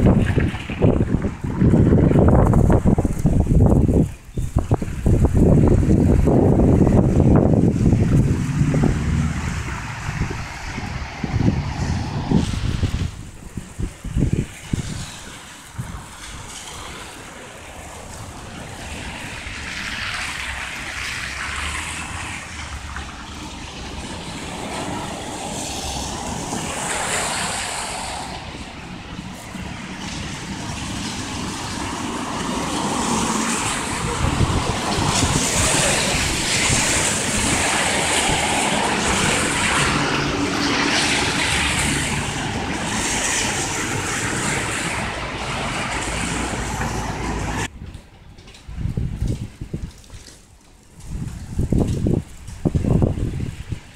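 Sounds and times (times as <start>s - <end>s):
cars passing: 0.0s - 47.8s
wind buffeting microphone: 0.0s - 53.9s.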